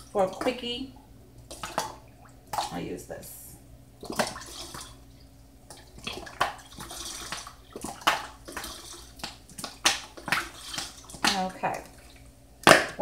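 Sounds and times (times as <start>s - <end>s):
liquid glugging from bottle: 1.3s - 2.8s, 4.0s - 13.0s.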